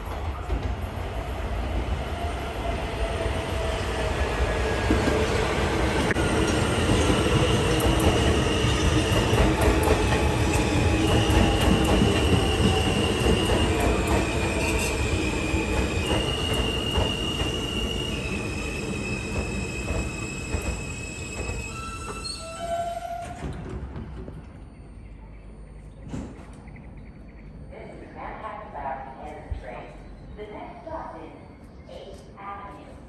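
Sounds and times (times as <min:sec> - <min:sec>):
subway train wheels squealing: 0:00.0 - 0:27.7
train rumble: 0:00.0 - 0:30.6.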